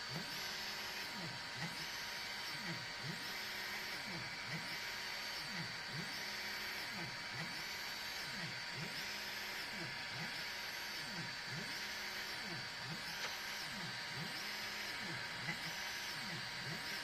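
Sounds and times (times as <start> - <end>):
stepper motors whining in sweeps: 0.0 - 17.0.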